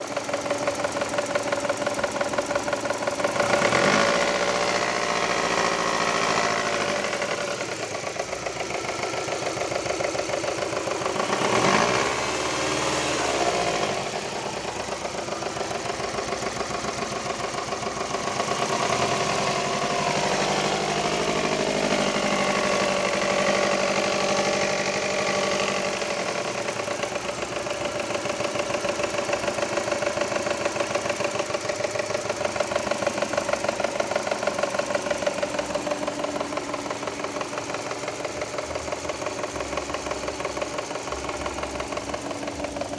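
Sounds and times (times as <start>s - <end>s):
car engine revving with knock: 0.2s - 42.9s.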